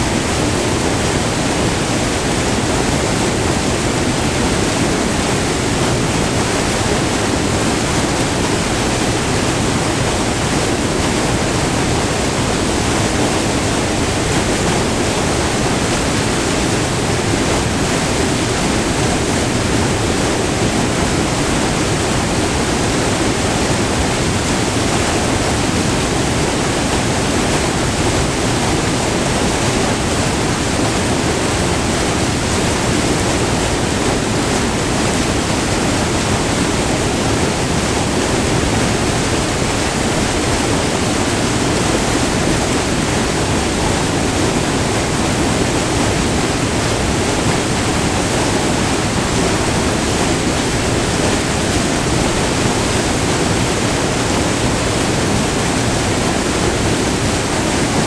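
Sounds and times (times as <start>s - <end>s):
water rushing over rock: 0.0s - 58.0s.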